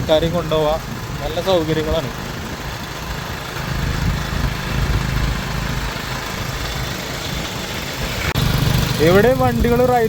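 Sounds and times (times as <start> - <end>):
road noise: 0.0 - 10.0
vehicle engine running: 0.0 - 10.0.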